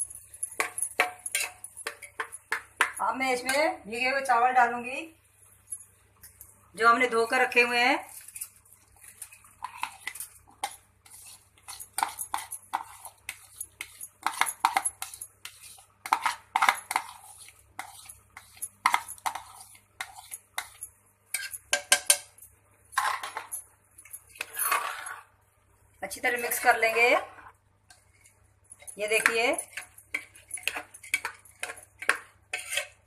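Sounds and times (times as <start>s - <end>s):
spoon scraping metal pots: 0.0s - 3.8s, 7.6s - 25.3s, 26.2s - 33.0s.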